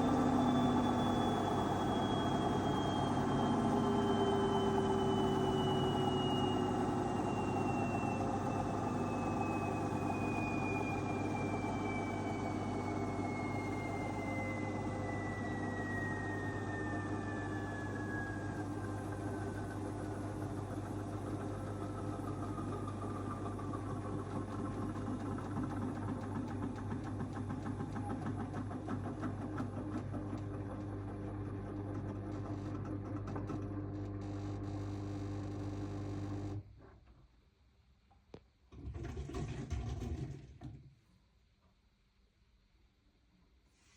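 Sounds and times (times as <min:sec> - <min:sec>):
washing machine motor whine: 0:00.0 - 0:36.6.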